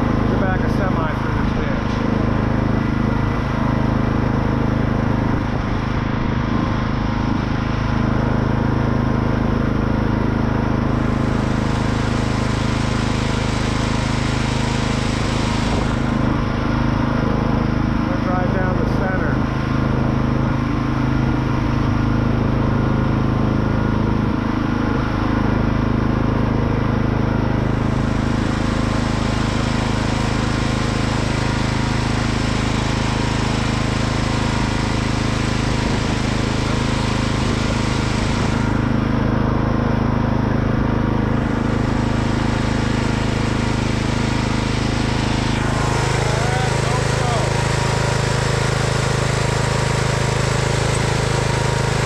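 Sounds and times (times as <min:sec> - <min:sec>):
lawn tractor engine running: 0:00.0 - 0:52.0.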